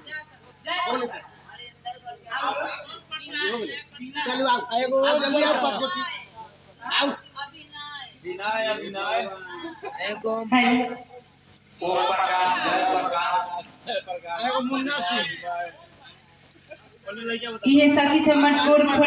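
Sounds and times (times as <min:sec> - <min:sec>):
cricket chirping: 0:00.0 - 0:19.0
people's voices: 0:00.0 - 0:19.0.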